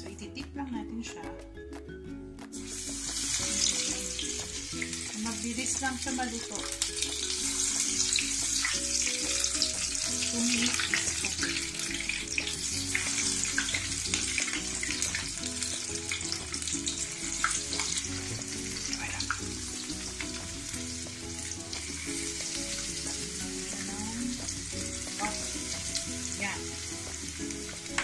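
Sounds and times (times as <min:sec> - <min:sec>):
shrimp sizzling in hot oil: 0:02.5 - 0:28.0.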